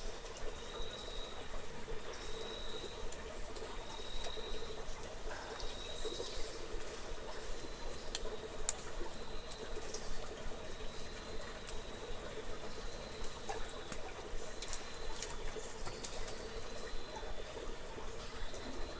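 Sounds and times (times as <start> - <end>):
sharp dripping clicks: 0.2 - 17.3.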